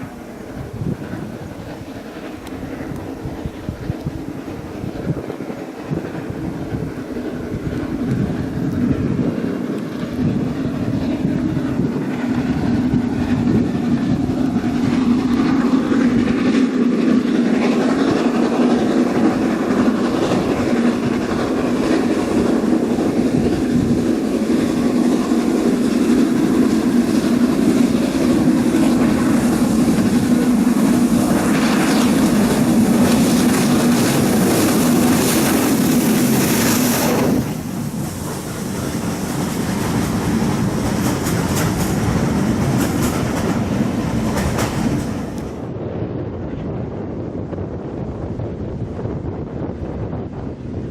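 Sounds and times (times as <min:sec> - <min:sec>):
train rumbling along the line: 0:00.0 - 0:50.9.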